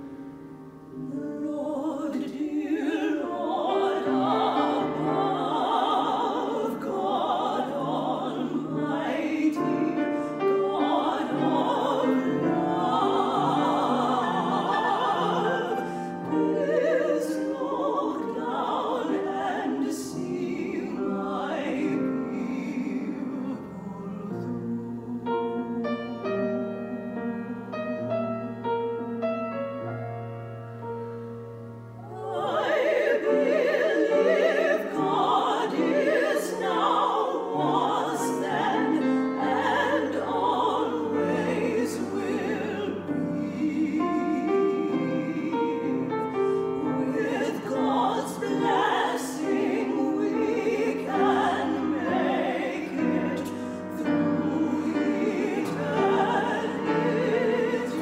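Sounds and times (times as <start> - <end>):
women singing in harmony: 0.0 - 29.6, 32.0 - 58.0
grand piano playing: 0.0 - 58.0.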